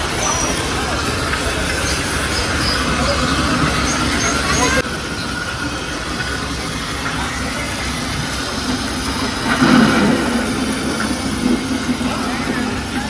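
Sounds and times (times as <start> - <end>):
artificial rain hissing: 0.0 - 13.0.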